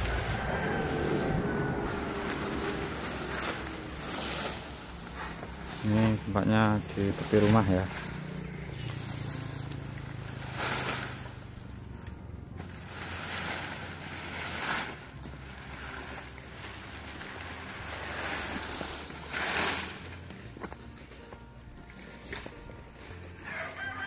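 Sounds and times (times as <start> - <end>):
palm fronds rustling and scraping: 0.0 - 24.0.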